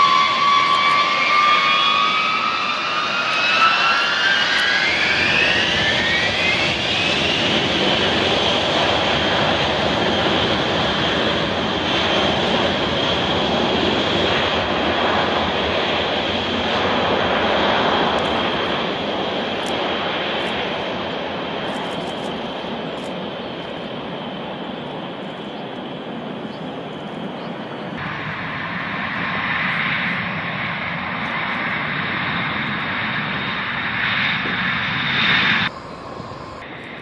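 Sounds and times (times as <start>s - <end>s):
high engine whine: 0.0s - 37.0s
jet engines rumbling: 0.0s - 37.0s.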